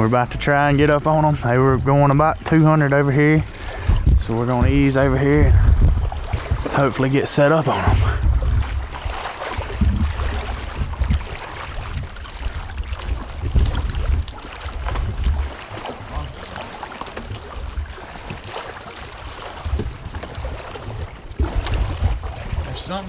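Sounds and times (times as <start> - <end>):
wind buffeting microphone: 0.0 - 23.0
water sloshing around legs: 0.9 - 23.0.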